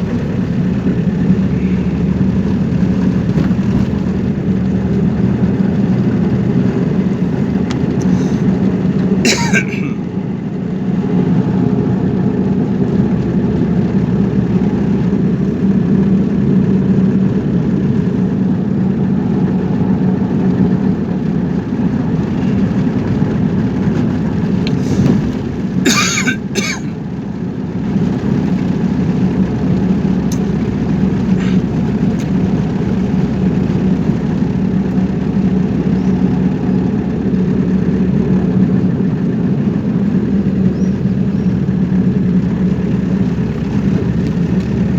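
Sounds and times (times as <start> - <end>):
car engine running: 0.0 - 44.9
road noise: 0.0 - 44.9.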